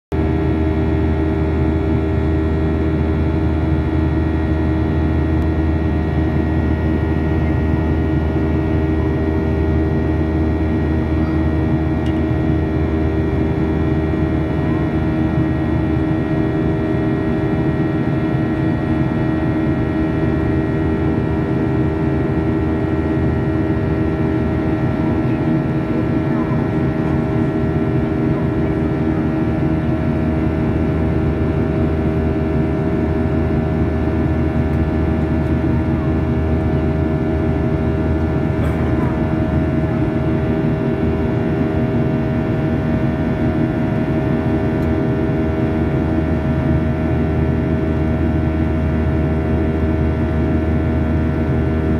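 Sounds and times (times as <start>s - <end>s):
airliner cabin engine drone: 0.2s - 51.9s.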